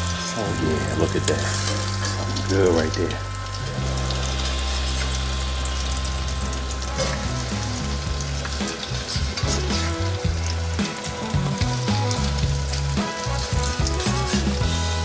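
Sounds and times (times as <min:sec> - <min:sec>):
bread sizzling in oil: 0:00.0 - 0:15.0.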